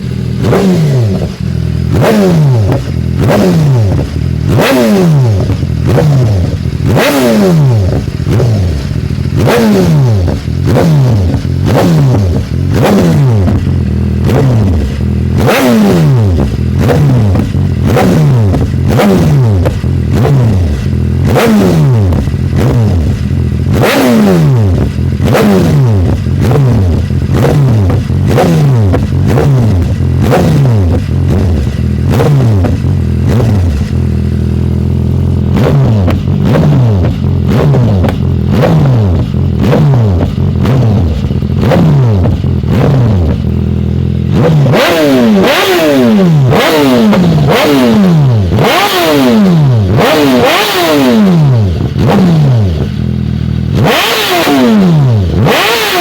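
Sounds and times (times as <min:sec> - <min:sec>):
motorcycle engine throttle blips: 0:00.0 - 0:56.0.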